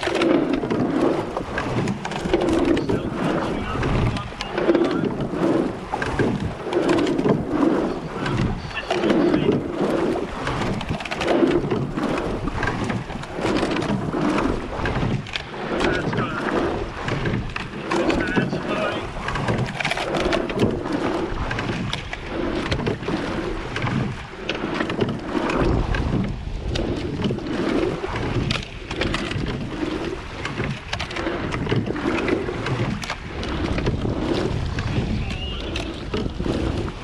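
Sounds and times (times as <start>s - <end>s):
water rushing along hull: 0.0s - 37.0s
wind buffeting microphone: 0.0s - 37.0s.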